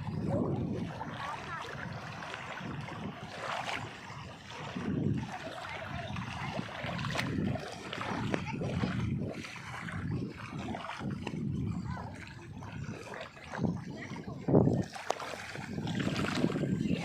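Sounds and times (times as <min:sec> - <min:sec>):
waves washing: 0:00.0 - 0:17.0
wind gusting against microphone: 0:00.0 - 0:17.0.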